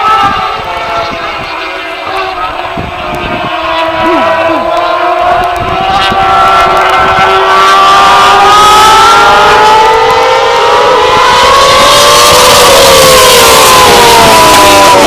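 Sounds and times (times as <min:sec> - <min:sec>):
motorbike engine accelerating: 0:00.0 - 0:15.0.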